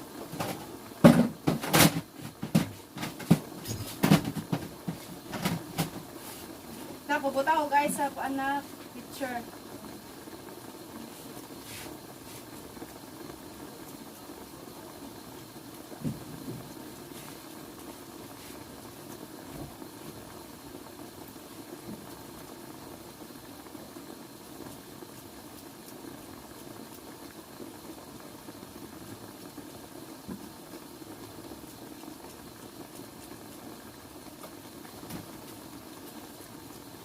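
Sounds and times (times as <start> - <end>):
pan simmering with bubbling hiss: 0.0 - 37.0.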